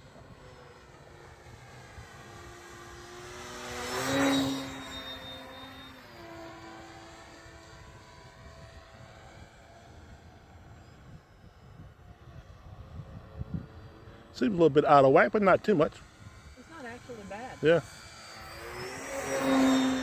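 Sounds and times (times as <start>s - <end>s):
model airplane motor whining: 0.0s - 20.0s.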